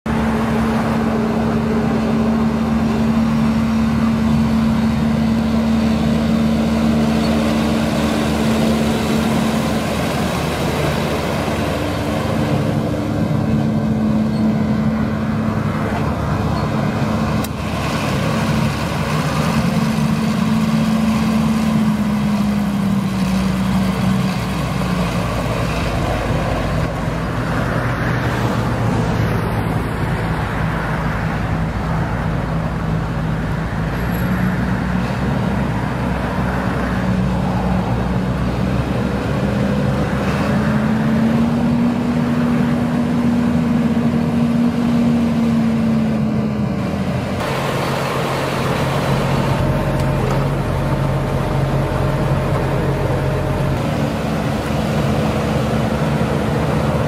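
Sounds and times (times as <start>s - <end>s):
tractor diesel engine running: 0.1s - 57.0s.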